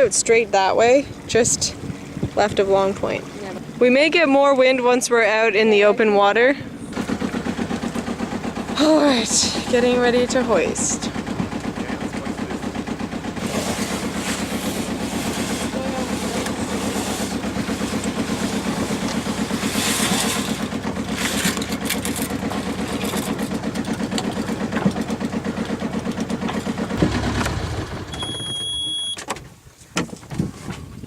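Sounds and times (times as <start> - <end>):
diesel engine running: 0.0 - 29.1.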